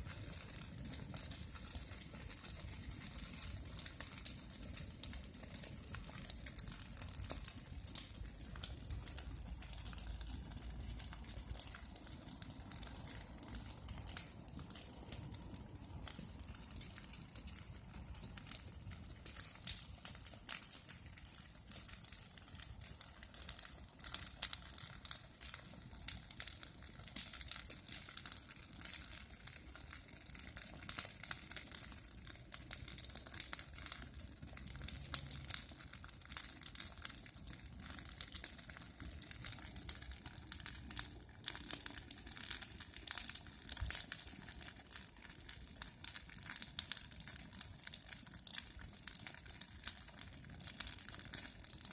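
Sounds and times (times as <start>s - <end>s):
bonfire crackling: 0.0s - 51.9s.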